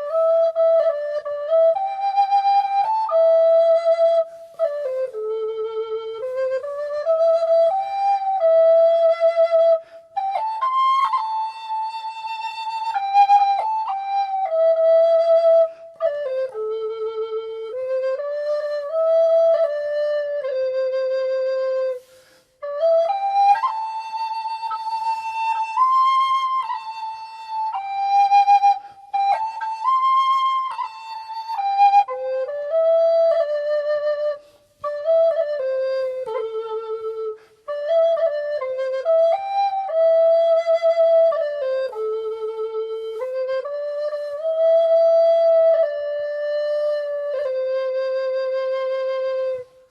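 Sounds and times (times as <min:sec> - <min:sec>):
recorder playing slow melody: 0:00.0 - 0:49.9.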